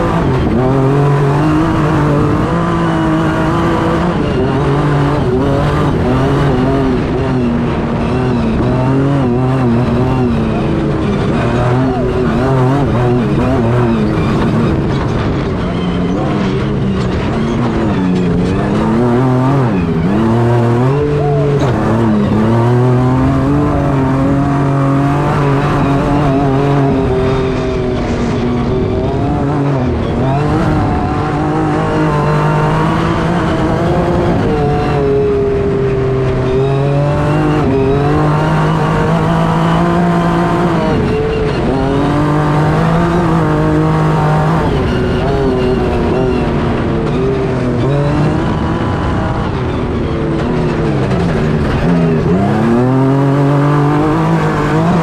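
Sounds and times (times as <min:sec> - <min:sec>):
truck engine revving: 0:00.0 - 0:55.0
tyres rushing on dirt: 0:00.0 - 0:55.0.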